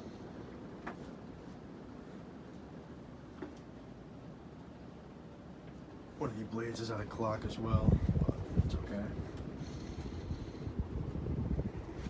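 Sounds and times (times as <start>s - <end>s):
ceiling fan air rush: 0.0s - 12.0s.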